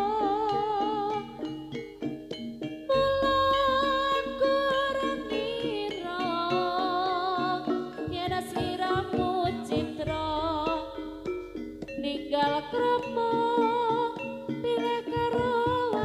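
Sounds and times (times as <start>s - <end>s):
drum strokes: 1.5s - 16.0s
wavering melody line: 2.9s - 16.0s.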